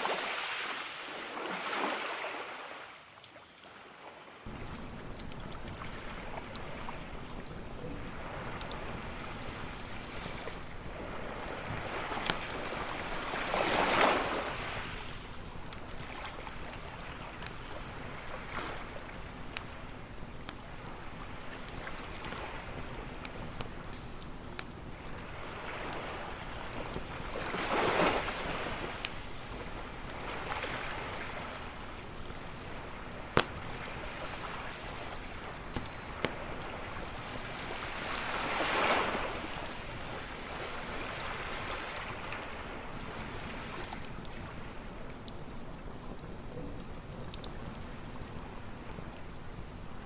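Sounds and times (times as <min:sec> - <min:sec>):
ocean waves washing: 0:00.0 - 0:49.8
crackling campfire with pops: 0:04.4 - 0:50.0.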